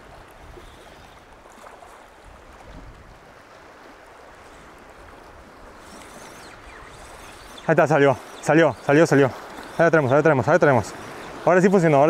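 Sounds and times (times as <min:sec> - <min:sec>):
small waves lapping on rocks: 0:00.0 - 0:12.0.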